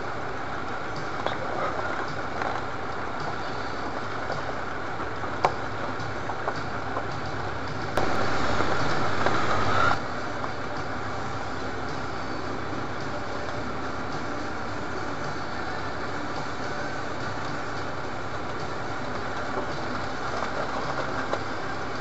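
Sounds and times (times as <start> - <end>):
vehicle engine and tyres on rough track: 0.0 - 22.0.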